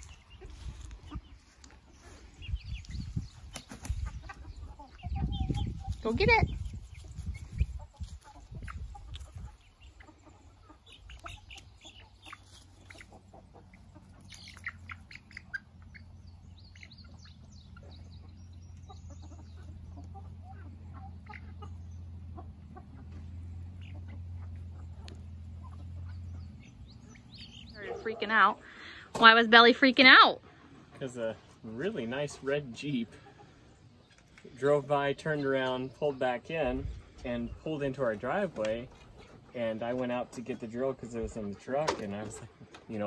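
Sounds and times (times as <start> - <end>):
chicks calling: 0.0 - 43.0.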